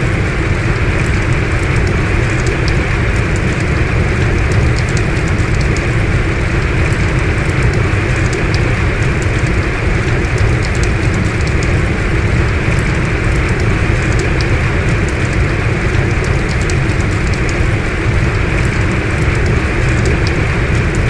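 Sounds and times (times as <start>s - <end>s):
heavy rain falling: 0.0s - 21.0s
raindrops ticking: 0.0s - 21.0s.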